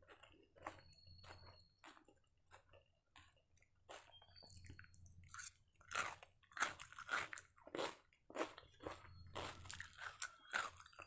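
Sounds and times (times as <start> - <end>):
person crunching cucumber: 1.8 - 11.0.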